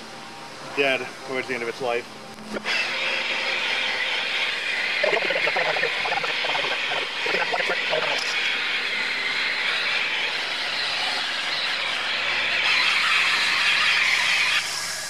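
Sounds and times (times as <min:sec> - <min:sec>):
rotary polisher whirring: 0:02.2 - 0:15.0.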